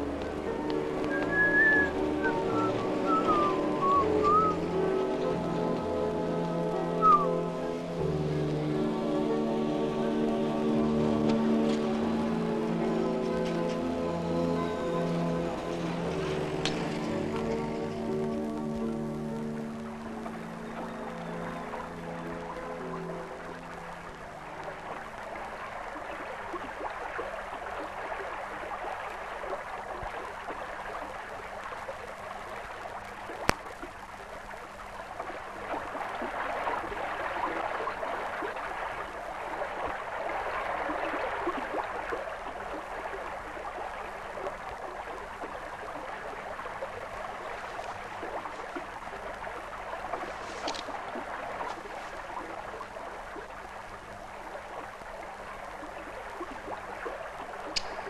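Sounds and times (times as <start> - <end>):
running water splashing: 0.0 - 58.0.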